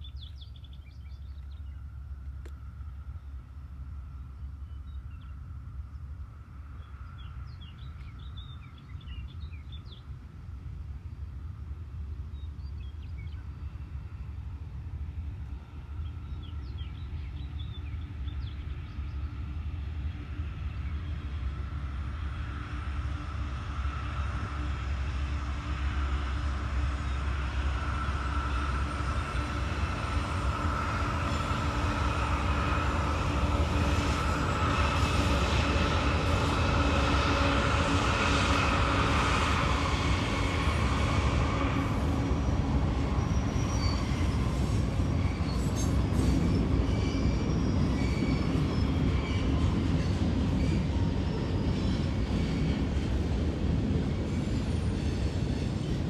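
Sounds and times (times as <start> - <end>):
diesel locomotive engine drone: 0.0 - 56.0
rail noise: 0.0 - 56.0.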